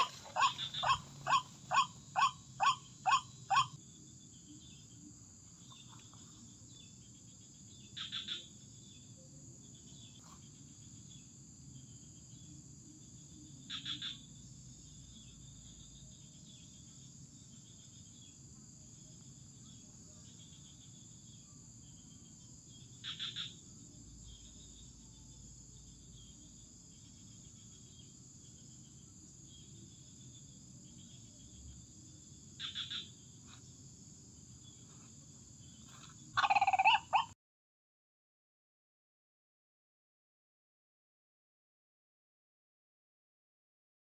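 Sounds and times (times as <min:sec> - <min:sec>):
high-pitched insect chorus: 0:00.0 - 0:37.3.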